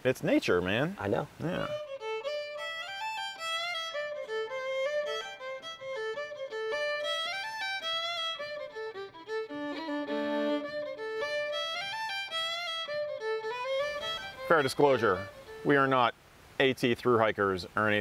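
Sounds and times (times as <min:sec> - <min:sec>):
lively fiddle tune: 0:01.4 - 0:16.1.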